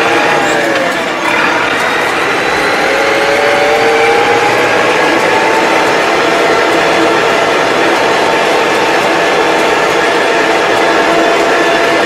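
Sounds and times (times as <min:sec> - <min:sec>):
tractor engine drone from cab: 0:00.0 - 0:12.0.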